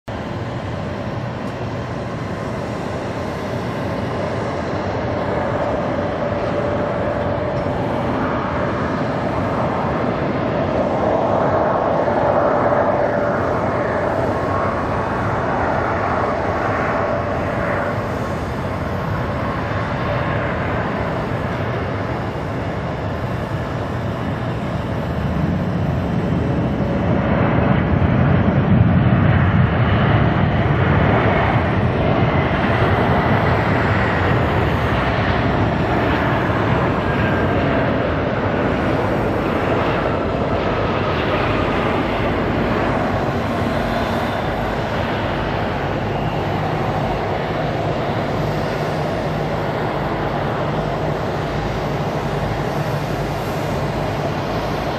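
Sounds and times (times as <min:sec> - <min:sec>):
jet airliner landing: 0:00.0 - 0:54.9.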